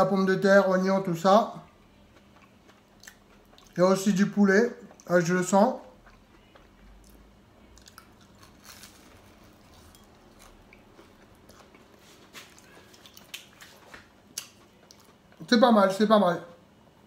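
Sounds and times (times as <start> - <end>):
faint chewing: 1.5 - 15.6.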